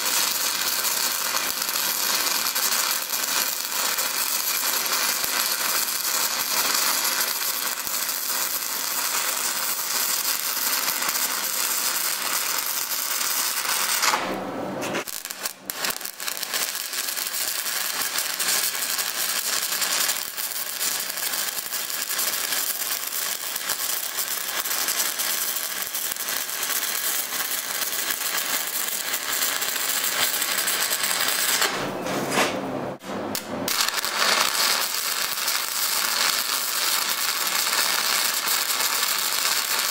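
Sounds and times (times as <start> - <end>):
welding arc crackling: 0.0 - 31.9, 33.3 - 39.9.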